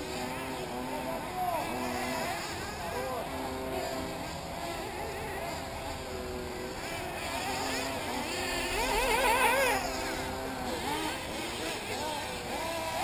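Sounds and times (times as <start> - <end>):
model engine revving: 0.0 - 13.0
small model engines buzzing: 0.0 - 13.0.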